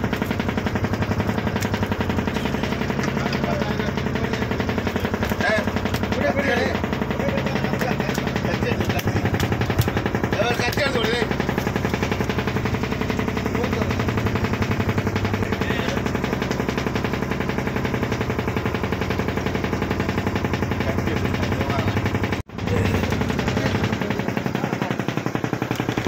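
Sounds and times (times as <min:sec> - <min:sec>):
boat diesel engine running: 0:00.0 - 0:26.0.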